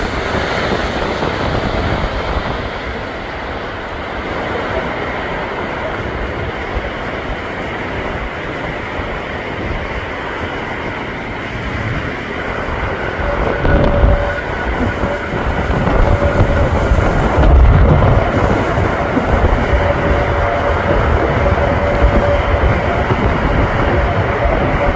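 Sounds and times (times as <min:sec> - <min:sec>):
faint steady whine: 0:00.0 - 0:24.9
jet engines rumbling: 0:00.0 - 0:24.9.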